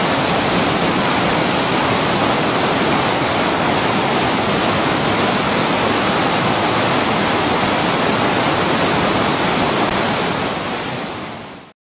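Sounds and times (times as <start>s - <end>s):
river rushing over rocks: 0.0s - 11.7s.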